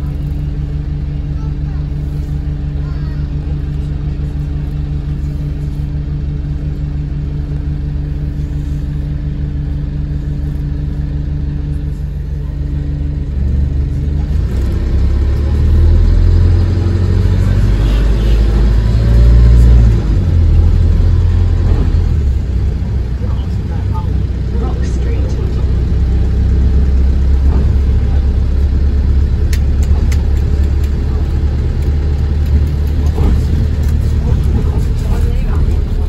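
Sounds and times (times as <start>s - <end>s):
bus engine: 0.0s - 36.0s.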